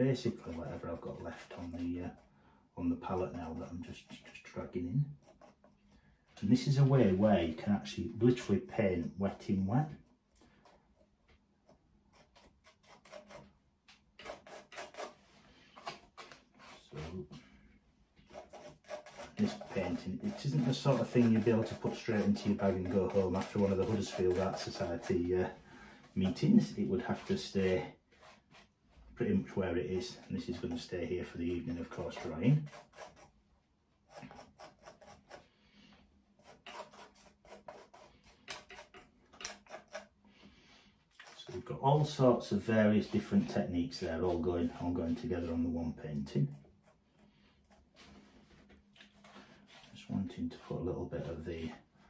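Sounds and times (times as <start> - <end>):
brush scratching paint on canvas: 0.0 - 2.3, 2.9 - 5.8, 8.3 - 13.6, 14.2 - 17.4, 18.2 - 28.8, 29.4 - 33.4, 34.0 - 35.5, 36.4 - 40.2, 41.1 - 52.0.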